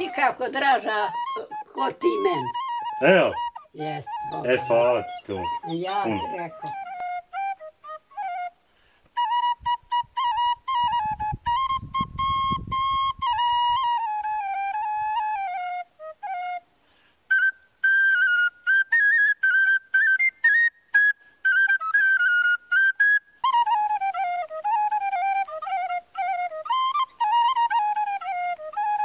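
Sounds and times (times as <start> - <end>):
solo flute melody: 0.0 - 29.0.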